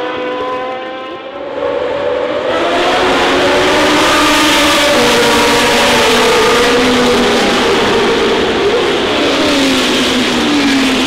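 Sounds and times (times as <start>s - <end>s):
racing car engine accelerating: 1.3s - 11.0s.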